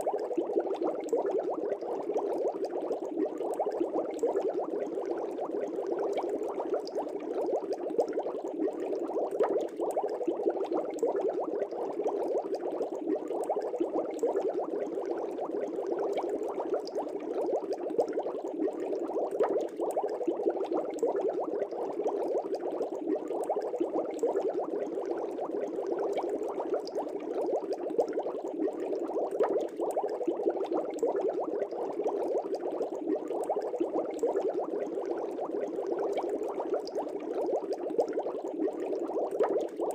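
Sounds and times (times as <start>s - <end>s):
aquarium air bubbles: 0.0s - 39.9s.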